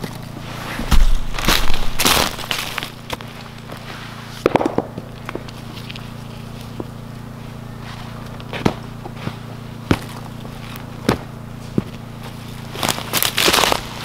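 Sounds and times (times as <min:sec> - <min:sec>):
footsteps on soil and twigs: 0:00.0 - 0:14.0
steady low hum: 0:00.0 - 0:14.0.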